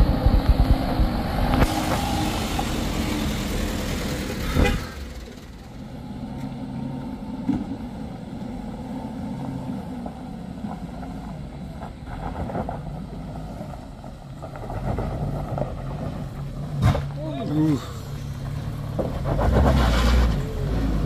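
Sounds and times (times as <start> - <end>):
car engine running at low speed: 0.0 - 21.0.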